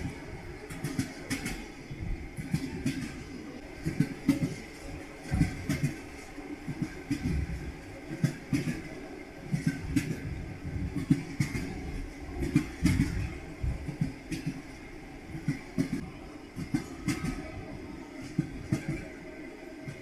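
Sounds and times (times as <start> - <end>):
train wheels clattering over rail joints: 0.0 - 19.2.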